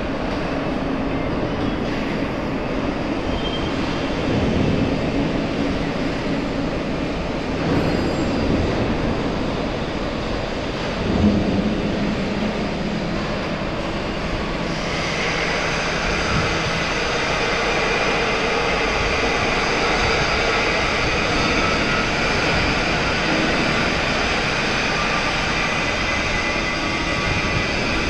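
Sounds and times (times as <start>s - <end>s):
high hydraulic whine: 0.0s - 28.0s
hydraulic crane running: 0.0s - 28.0s.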